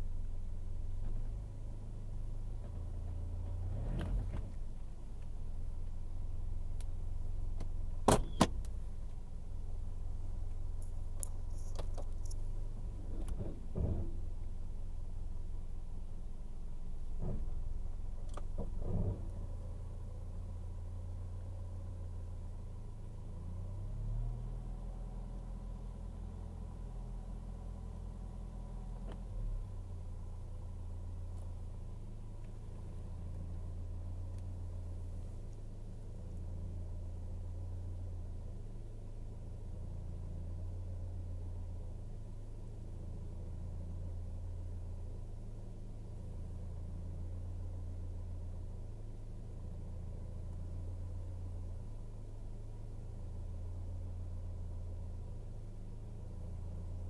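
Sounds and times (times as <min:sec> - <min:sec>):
car engine idling: 0:00.0 - 0:24.0, 0:24.6 - 0:57.0.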